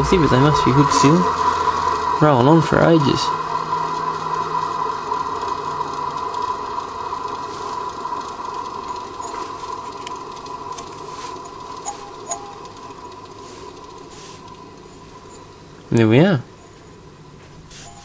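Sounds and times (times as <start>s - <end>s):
bench grinder coasting down hum: 0.0s - 18.0s.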